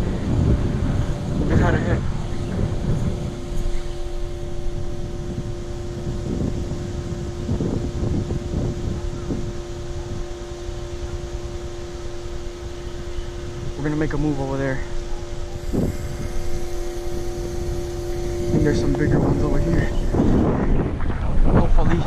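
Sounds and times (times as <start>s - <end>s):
steady mechanical hum: 0.0s - 22.0s
wind buffeting microphone: 0.0s - 22.0s.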